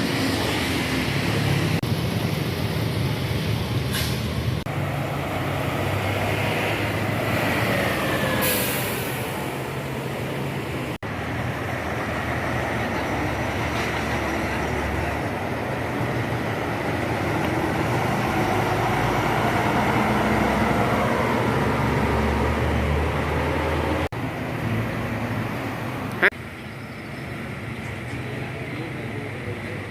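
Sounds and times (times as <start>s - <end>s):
diesel bus engines: 0.0s - 29.9s.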